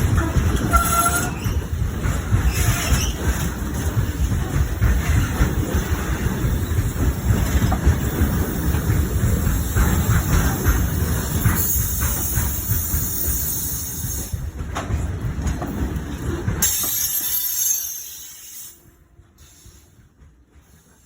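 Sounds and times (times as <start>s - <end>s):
train wheels squealing on rails: 0.0s - 4.0s, 5.1s - 14.4s, 16.6s - 21.0s
rumble of passing train: 0.0s - 21.0s.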